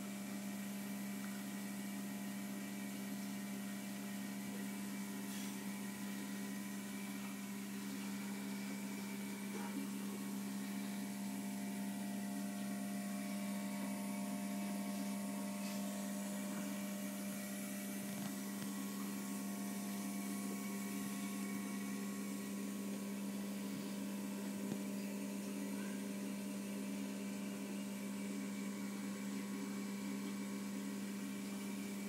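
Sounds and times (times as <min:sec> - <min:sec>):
electric motor hum: 0:00.0 - 0:32.0.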